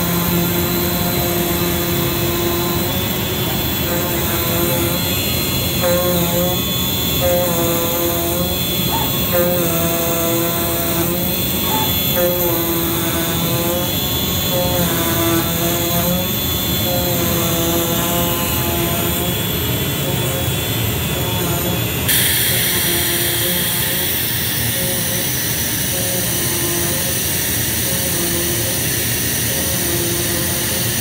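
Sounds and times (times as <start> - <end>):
cutting machine motor whines: 0.0 - 31.0.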